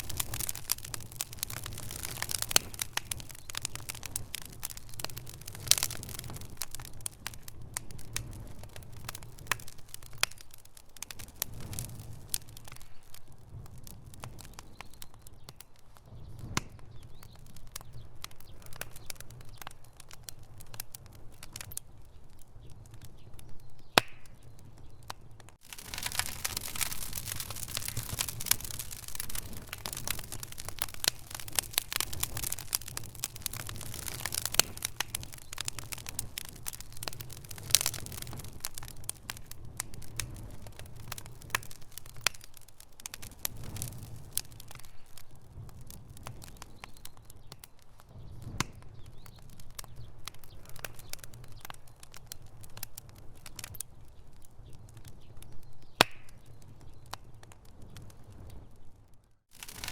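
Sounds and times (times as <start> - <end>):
low fire rumble: 0.0 - 59.9
wood fire crackling and popping: 0.0 - 59.9.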